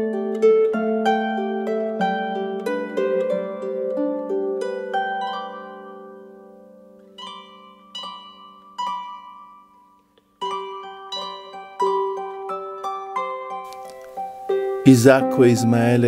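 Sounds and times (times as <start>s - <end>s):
plucked string instrument music: 0.0s - 16.0s.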